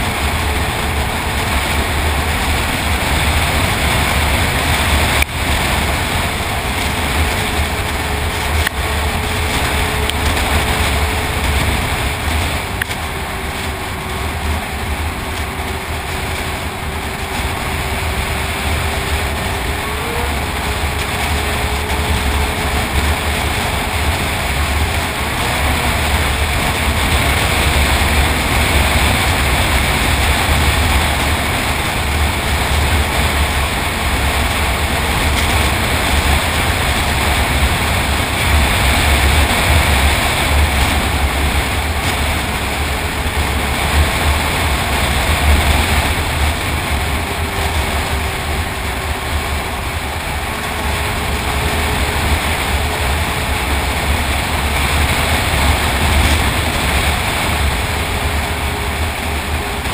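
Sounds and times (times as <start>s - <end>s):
snowmobile engine drone: 0.0s - 59.9s
wind rushing on microphone: 0.0s - 59.9s.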